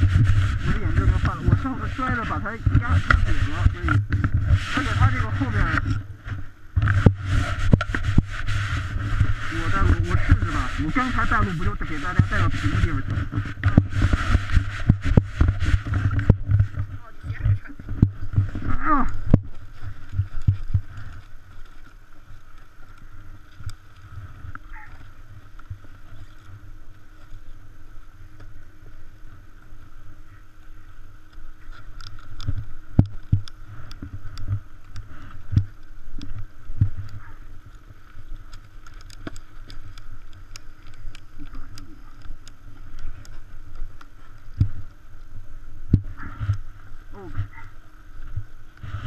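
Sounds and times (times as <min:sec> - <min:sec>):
low rumbling wind: 0:00.0 - 0:49.0.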